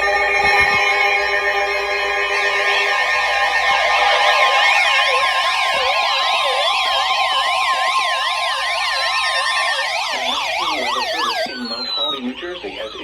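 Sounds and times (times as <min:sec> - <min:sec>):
steady warning tone: 0:00.0 - 0:13.0
warbling electronic sirens: 0:00.0 - 0:13.0.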